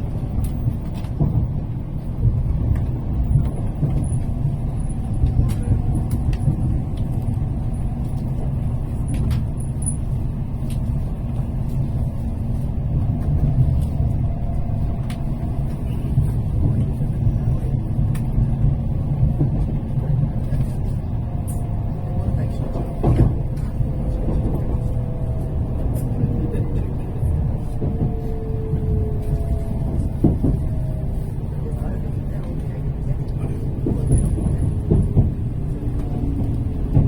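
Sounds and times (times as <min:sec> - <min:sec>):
train rumble from inside: 0:00.0 - 0:37.0.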